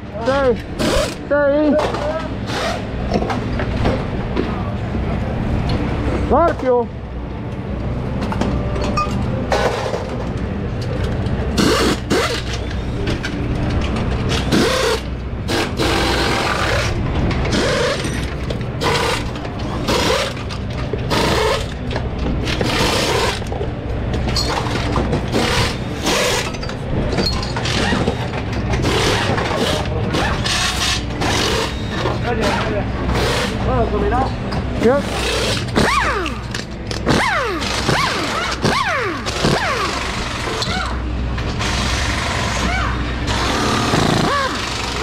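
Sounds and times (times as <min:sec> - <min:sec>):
steady low hum: 0:00.0 - 0:45.0
metal engine parts and tools clinking: 0:05.6 - 0:45.0.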